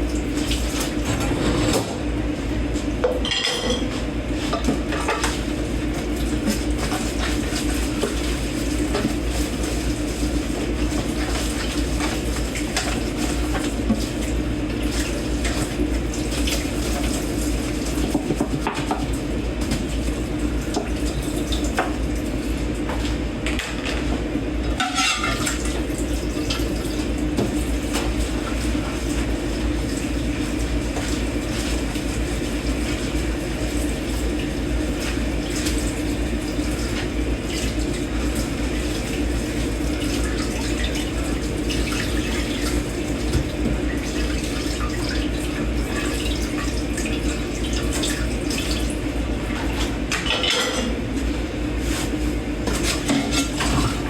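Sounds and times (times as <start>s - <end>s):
running water in sink: 0.0s - 54.0s.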